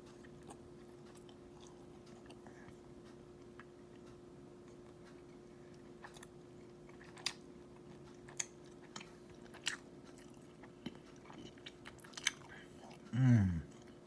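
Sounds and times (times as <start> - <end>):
faint steady hum: 0.0 - 14.0
person chewing: 0.1 - 14.0.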